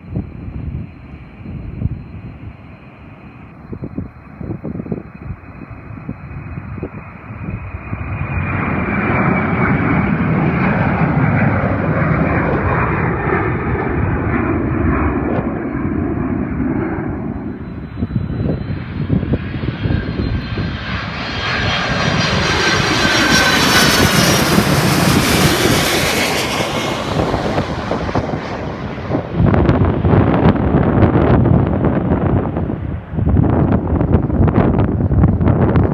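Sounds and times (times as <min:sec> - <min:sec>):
jet engines at takeoff power: 0:00.0 - 0:35.9
wind buffeting microphone: 0:00.0 - 0:35.9.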